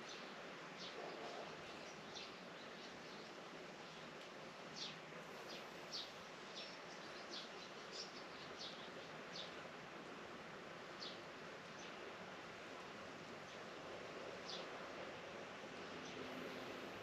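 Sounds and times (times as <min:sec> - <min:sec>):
rural outdoor hiss: 0:00.0 - 0:17.0.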